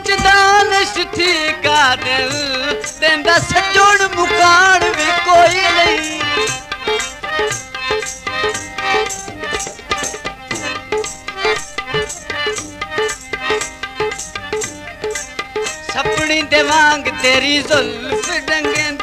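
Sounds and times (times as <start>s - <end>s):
percussion beat: 0.0s - 19.0s.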